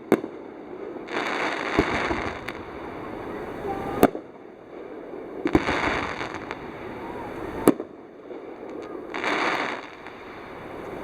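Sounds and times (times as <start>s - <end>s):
faint firework pops: 0.0s - 4.5s, 5.4s - 11.0s
hissing firework crackle: 0.0s - 11.0s.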